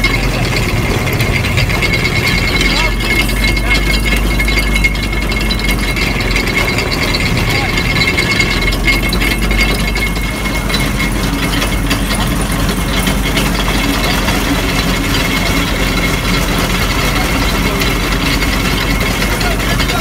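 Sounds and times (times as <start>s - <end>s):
sugarcane crusher gears rattling: 0.0s - 20.0s.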